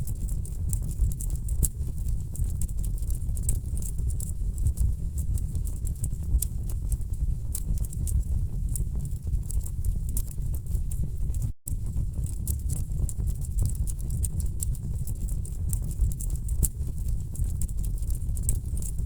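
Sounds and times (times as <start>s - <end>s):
low rumble of flames: 0.0s - 19.0s.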